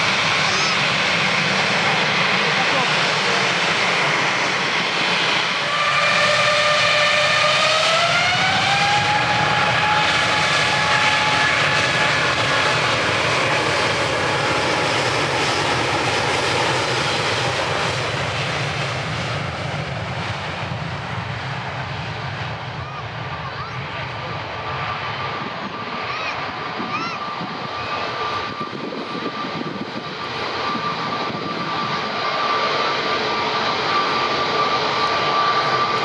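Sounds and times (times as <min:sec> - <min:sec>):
jet engine whine: 0:00.0 - 0:36.0
jet engines roaring: 0:00.0 - 0:36.0.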